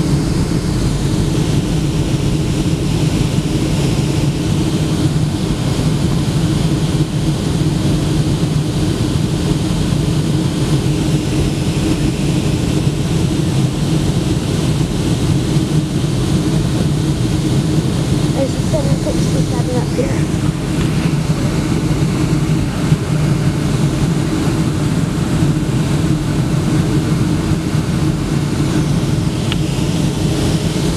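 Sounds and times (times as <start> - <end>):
jet engine drone: 0.0 - 30.9.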